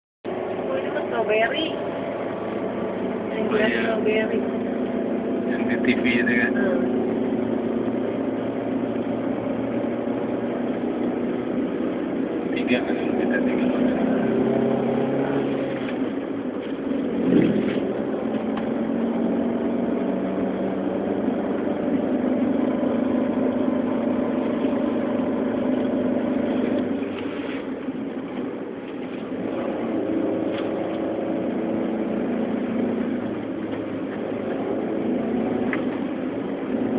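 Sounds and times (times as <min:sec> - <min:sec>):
car engine and road noise: 0:00.2 - 0:36.9.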